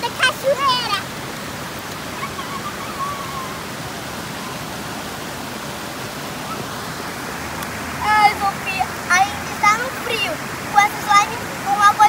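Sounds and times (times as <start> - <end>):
waterfall cascading over rock: 0.0 - 12.0.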